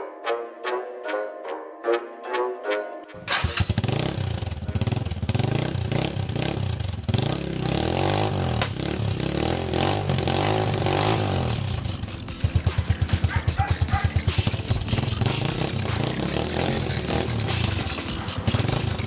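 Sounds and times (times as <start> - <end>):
motorcycle engine revving: 3.2 - 19.0
motorcycle engine idling: 3.3 - 19.0.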